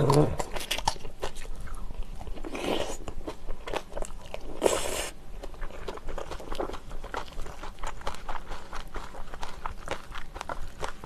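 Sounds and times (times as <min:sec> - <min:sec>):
wet chewing and crunching: 0:00.0 - 0:11.0.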